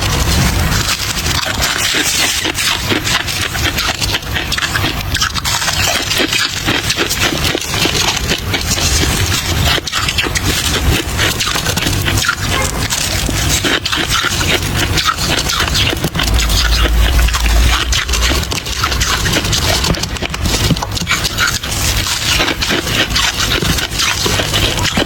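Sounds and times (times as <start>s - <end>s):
chewing crunchy ice: 0.0s - 25.0s.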